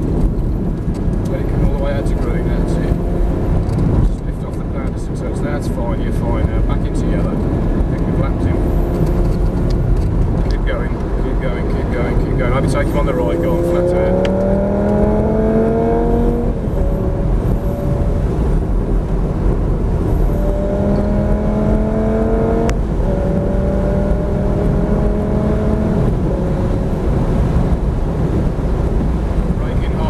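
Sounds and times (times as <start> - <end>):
engine accelerating at full throttle: 0.0 - 30.0
wind and road rumble: 0.0 - 30.0.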